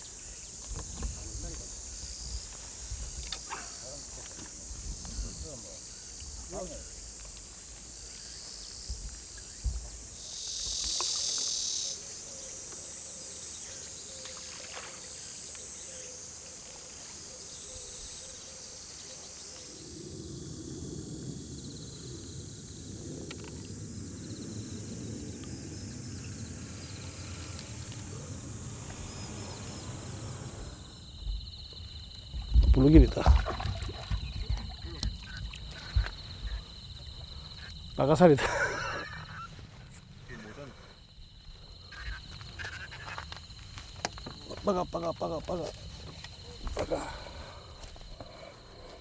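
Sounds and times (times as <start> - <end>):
crickets and insects chirping: 0.0 - 49.0
insect buzz: 0.0 - 49.0.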